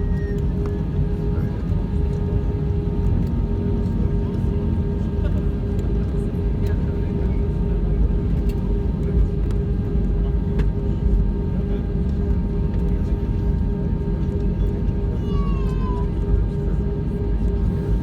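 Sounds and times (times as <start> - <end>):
airliner rumbling on ground: 0.0 - 18.0.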